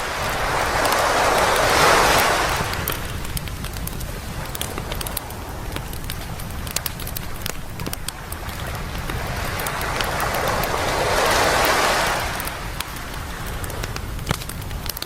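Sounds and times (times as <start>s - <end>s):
campfire crackling and popping: 0.0s - 15.0s
surf rumbling: 0.0s - 15.0s
wave washing up beach: 0.0s - 15.0s.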